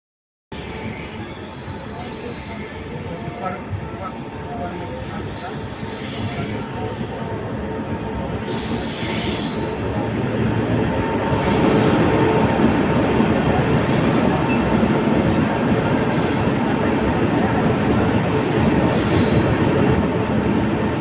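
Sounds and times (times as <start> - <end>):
train rumbling on rails: 0.5 - 21.0.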